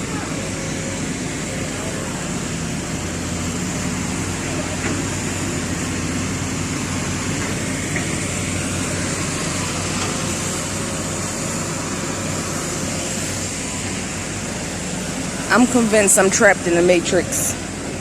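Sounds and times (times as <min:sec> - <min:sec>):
road traffic hum: 0:00.0 - 0:18.0.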